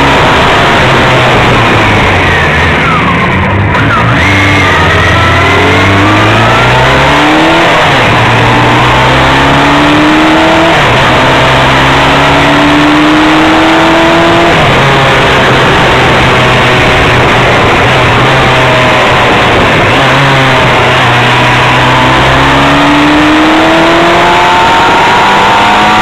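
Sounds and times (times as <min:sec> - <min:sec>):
heavy wind noise: 0:00.0 - 0:26.0
motorcycle engine accelerating: 0:00.0 - 0:26.0.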